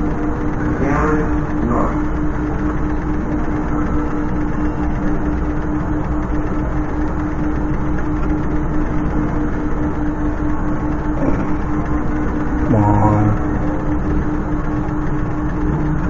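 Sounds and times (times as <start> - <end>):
low hum tone: 0.0 - 16.0.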